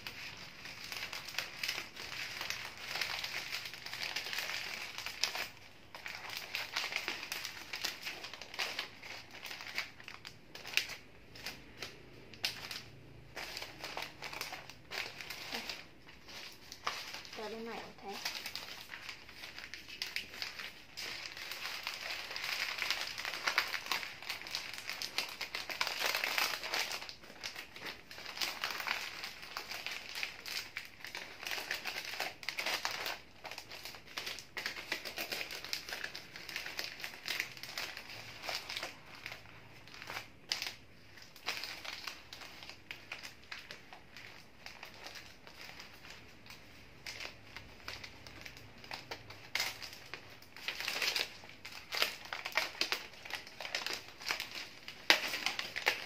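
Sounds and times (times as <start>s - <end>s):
wrapping paper rustling: 0.0s - 56.0s.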